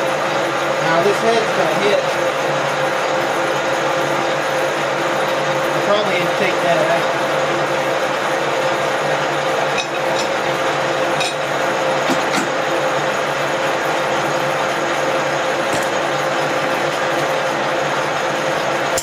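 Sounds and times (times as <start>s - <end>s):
milling machine humming: 0.0s - 19.0s.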